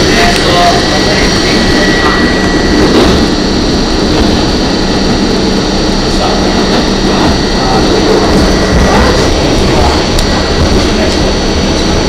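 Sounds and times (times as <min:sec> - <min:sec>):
constant high tones: 0:00.0 - 0:11.7
train wheels rumbling on rail: 0:00.0 - 0:12.0.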